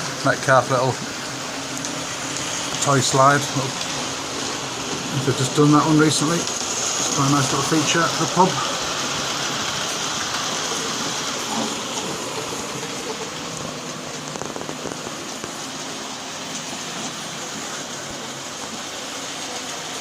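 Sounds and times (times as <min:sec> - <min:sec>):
model trains whirring on track: 0:00.0 - 0:20.0.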